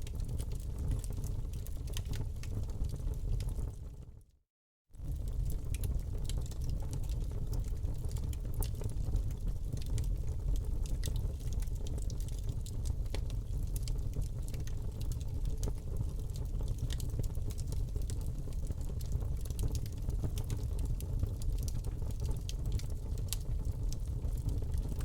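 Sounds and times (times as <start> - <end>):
wood fire popping and snapping: 0.0 - 3.8, 5.0 - 25.0
low rumble of burning: 0.0 - 4.3, 5.0 - 25.0.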